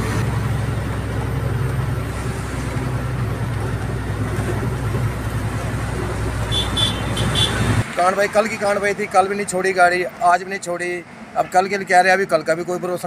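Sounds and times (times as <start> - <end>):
vehicle engine and road drone: 0.0 - 13.0.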